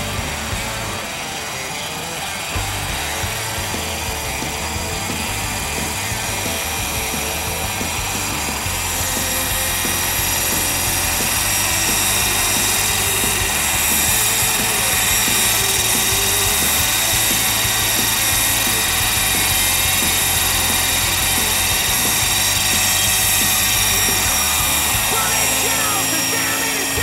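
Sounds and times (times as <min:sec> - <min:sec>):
model helicopter rotor whine: 0:00.0 - 0:27.0.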